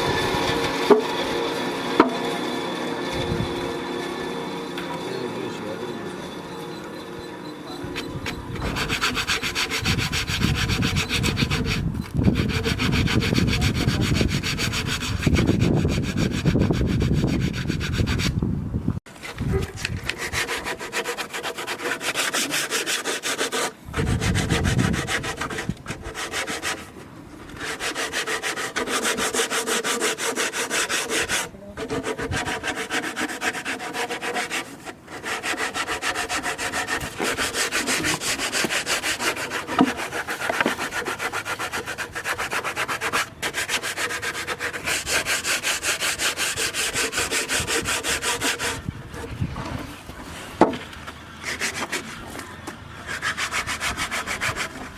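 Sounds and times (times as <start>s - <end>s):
rasping strokes on wood: 0.0s - 18.4s, 19.5s - 49.4s, 51.4s - 52.4s, 53.0s - 54.9s.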